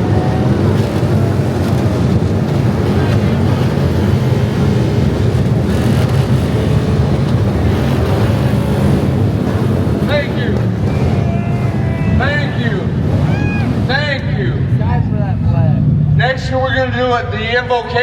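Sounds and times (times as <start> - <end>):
motorcycle engines revving: 0.0 - 17.2.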